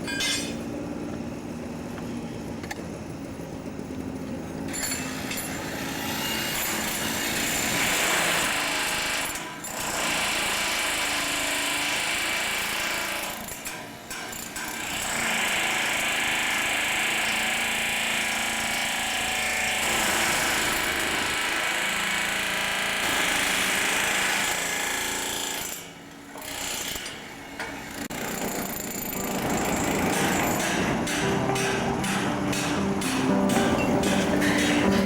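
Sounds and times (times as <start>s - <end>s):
power tool working on rail: 4.6s - 35.0s.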